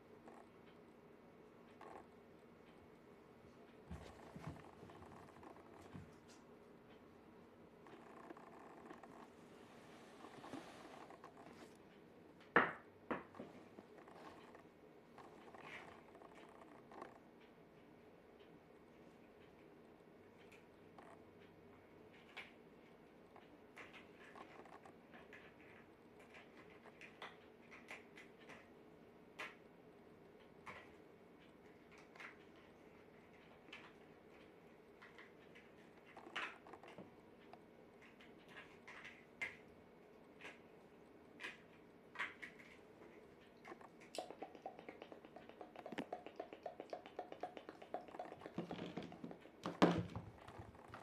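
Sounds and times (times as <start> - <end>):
low room hum: 0.0 - 51.0.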